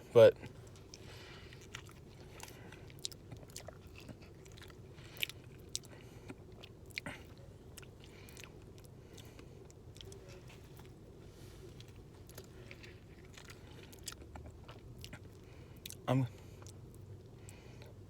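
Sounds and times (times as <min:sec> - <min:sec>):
person chewing food: 0:00.4 - 0:18.0.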